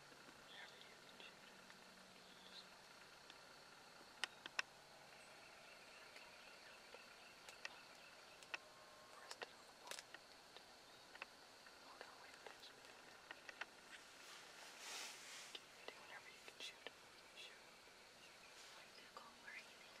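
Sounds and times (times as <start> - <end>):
faint high-pitched hum: 0.0 - 20.0.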